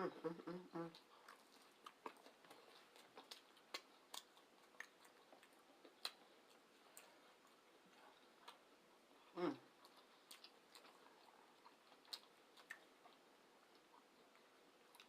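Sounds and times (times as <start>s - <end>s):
person chewing: 0.7s - 15.0s.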